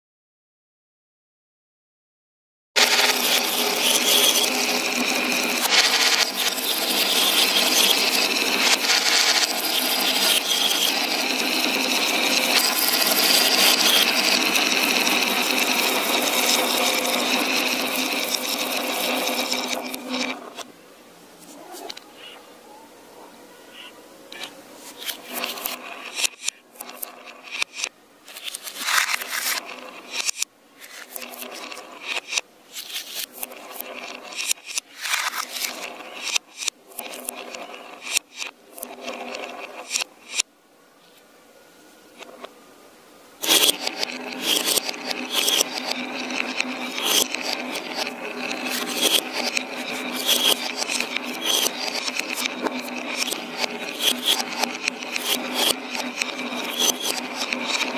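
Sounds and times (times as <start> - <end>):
glass marbles rattling down wooden track: 2.8 - 20.4, 25.0 - 40.4, 43.4 - 57.9.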